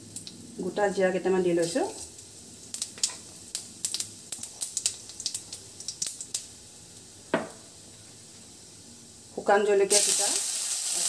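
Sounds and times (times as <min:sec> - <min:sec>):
seeds popping in hot oil: 0:00.0 - 0:07.8, 0:09.9 - 0:11.0
faint oil sizzle: 0:00.0 - 0:11.0.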